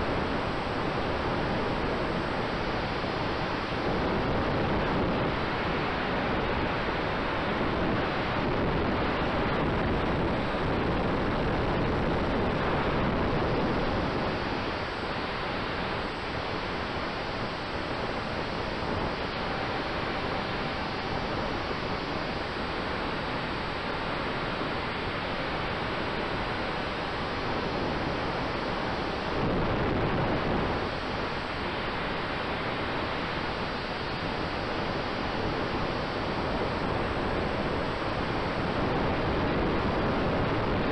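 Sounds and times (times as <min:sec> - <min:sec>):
faint steady tone: 0:00.0 - 0:40.9.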